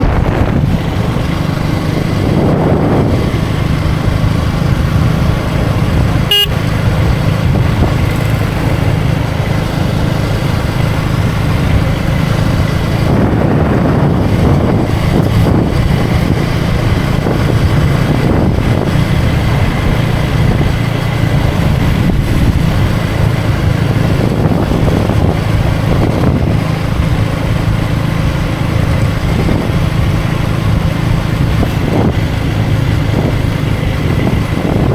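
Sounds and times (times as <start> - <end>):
motorcycle engine running: 0.0 - 34.9
wind and road noise: 0.0 - 34.9.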